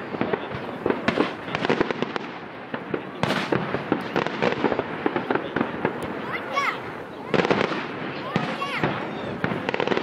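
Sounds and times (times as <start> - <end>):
fireworks banging and popping: 0.0 - 10.0.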